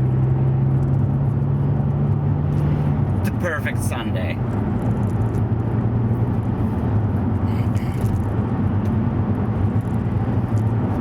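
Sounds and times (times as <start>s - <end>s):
car engine running while driving: 0.0s - 11.0s
road noise: 0.0s - 11.0s.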